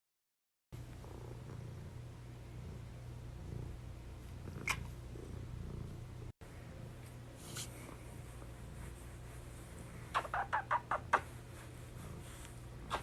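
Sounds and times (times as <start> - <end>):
cat purring: 0.8 - 7.0, 7.8 - 13.0.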